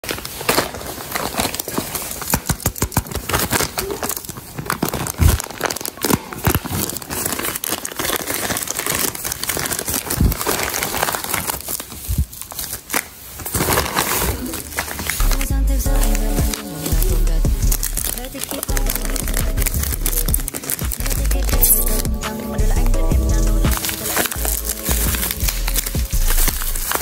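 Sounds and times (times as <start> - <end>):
packaging tearing: 0.0 - 23.0, 23.6 - 27.0
plastic packaging crinkling: 0.0 - 27.0.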